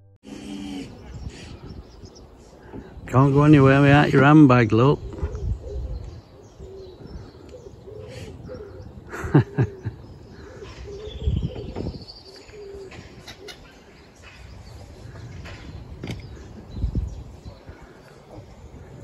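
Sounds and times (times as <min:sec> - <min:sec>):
birds cooing: 0:00.2 - 0:19.0.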